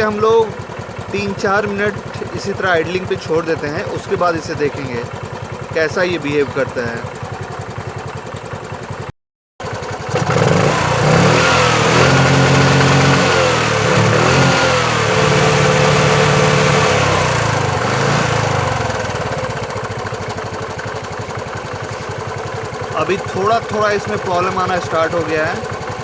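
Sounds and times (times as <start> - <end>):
scooter engine idling and revving: 0.0 - 26.0.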